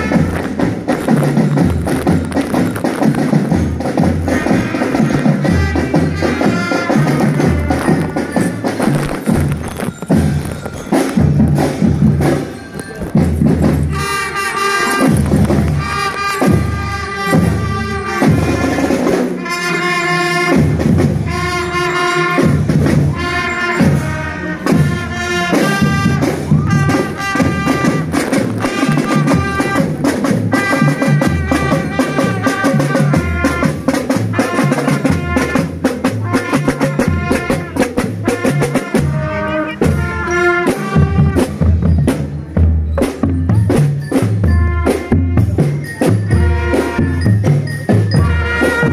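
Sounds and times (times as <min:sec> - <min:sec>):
marching drum band playing: 0:00.0 - 0:48.9.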